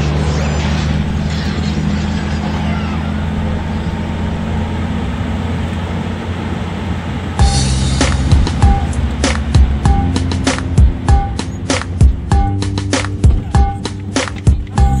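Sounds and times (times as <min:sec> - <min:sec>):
car engine hum: 0:00.0 - 0:15.0.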